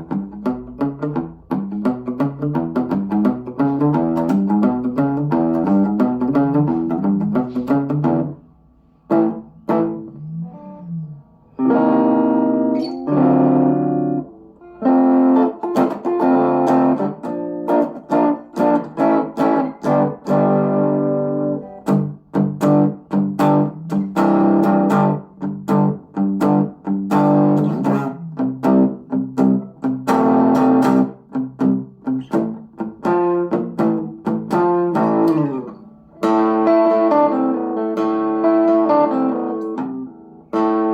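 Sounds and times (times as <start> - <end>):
electric guitar playing: 0.0 - 40.9.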